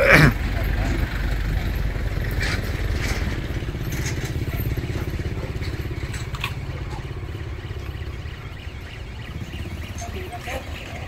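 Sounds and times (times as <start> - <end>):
engine throbbing: 0.0 - 11.0.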